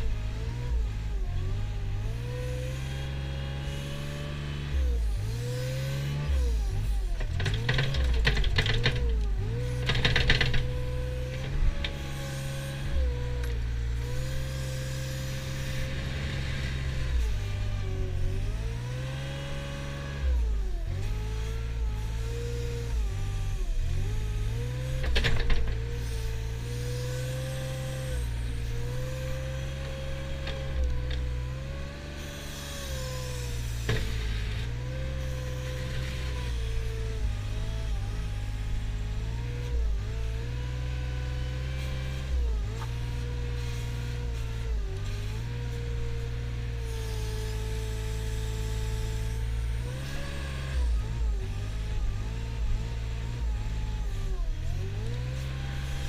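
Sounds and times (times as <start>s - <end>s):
wheel loader engine droning: 0.0s - 56.0s.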